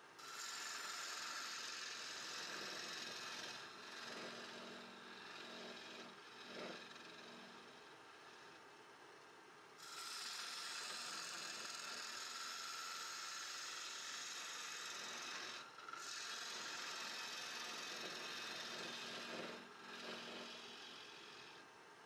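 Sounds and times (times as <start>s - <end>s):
gouge scraping wood on lathe: 0.2s - 8.7s, 9.8s - 21.7s
lathe motor hum: 0.2s - 9.2s, 9.8s - 21.8s.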